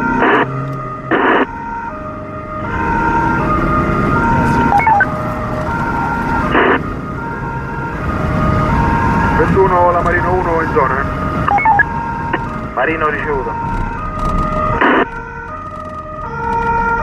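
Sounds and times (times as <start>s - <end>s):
police car two-tone siren: 0.0s - 17.0s.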